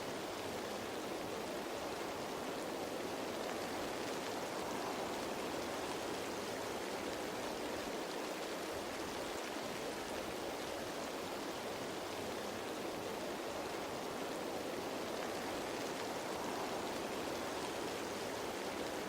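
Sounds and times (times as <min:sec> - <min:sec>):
rain falling on leaves: 0:00.0 - 0:19.0.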